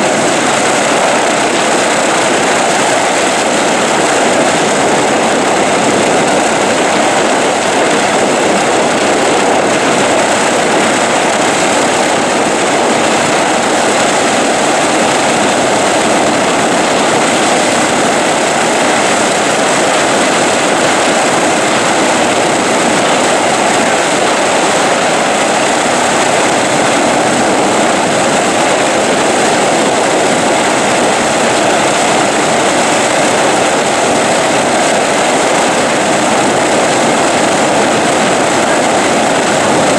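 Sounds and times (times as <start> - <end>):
aircraft engines idling: 0.0 - 39.9.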